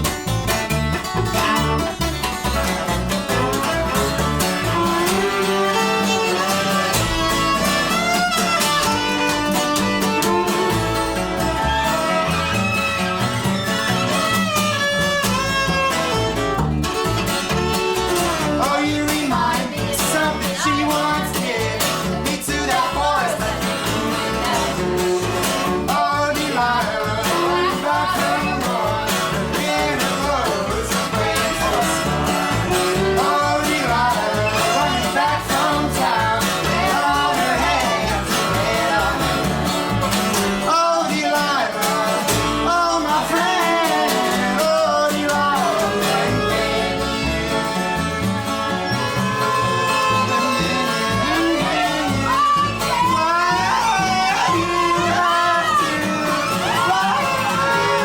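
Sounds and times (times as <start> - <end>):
guitar: 0.0 - 58.0
upright bass: 0.0 - 58.0
bowed viola melody: 0.9 - 40.6, 42.3 - 58.0.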